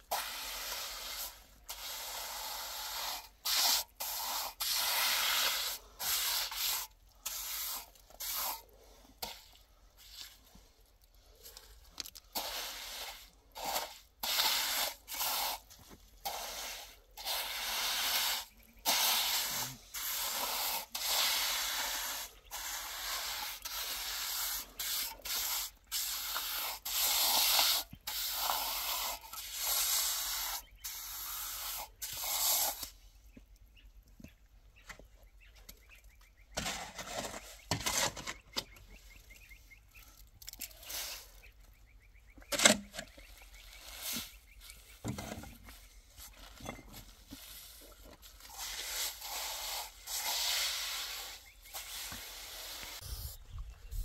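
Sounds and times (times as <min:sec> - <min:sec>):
trowel scraping wet cement: 0:00.0 - 0:33.0, 0:36.5 - 0:38.7, 0:42.4 - 0:54.0.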